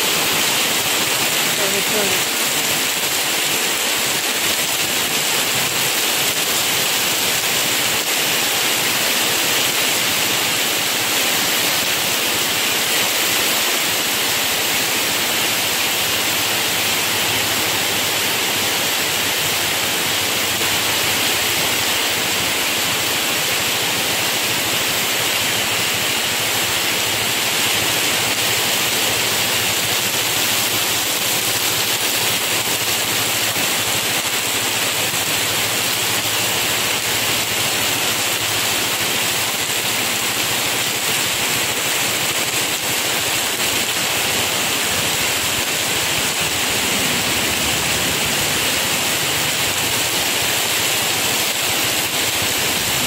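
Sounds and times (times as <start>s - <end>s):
heavy rain on a street: 0.0s - 53.0s.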